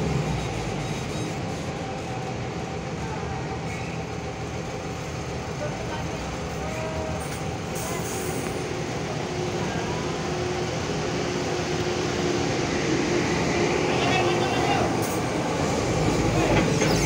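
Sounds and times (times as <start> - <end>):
diesel truck engines rumbling: 0.0 - 17.0.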